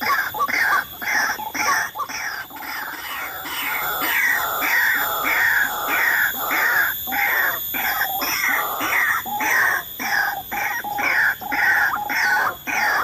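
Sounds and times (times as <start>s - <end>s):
waterhen calling harsh notes: 1.6s - 13.0s.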